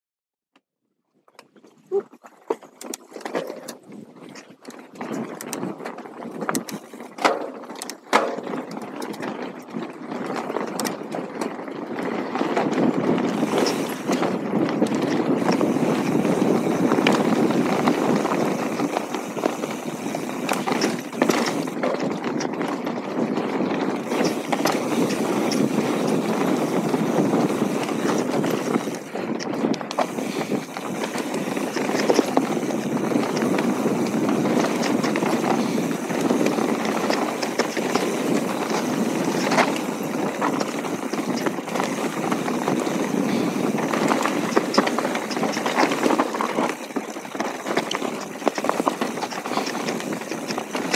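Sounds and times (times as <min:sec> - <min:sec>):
bike rattles and clicks: 0:01.3 - 0:50.9
bike tyres rolling on dirt: 0:01.3 - 0:50.9.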